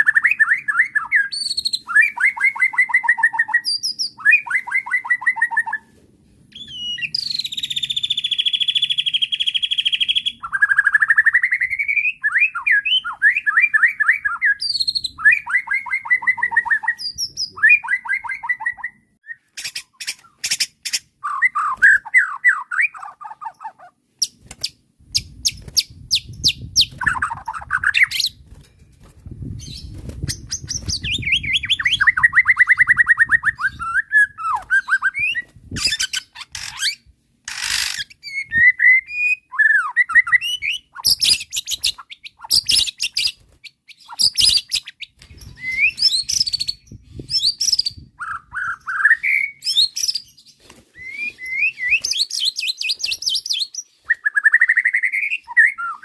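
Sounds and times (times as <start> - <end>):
songbird singing trills: 0.0 - 5.9, 6.5 - 24.4, 29.4 - 56.0.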